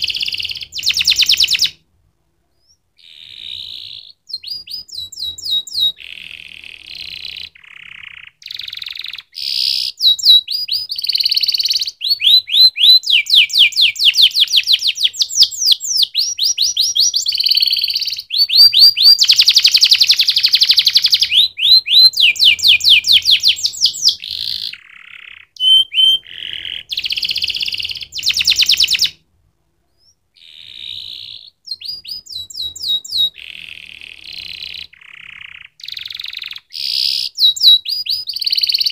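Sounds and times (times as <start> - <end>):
canary singing trills: 0.0 - 1.8, 2.5 - 29.2, 29.9 - 38.9.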